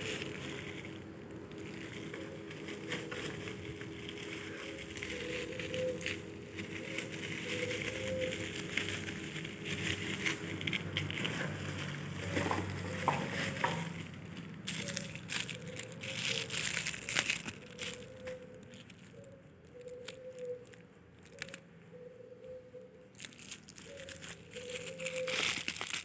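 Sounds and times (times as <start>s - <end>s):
packaging crinkling: 0.0s - 21.6s, 23.1s - 26.0s.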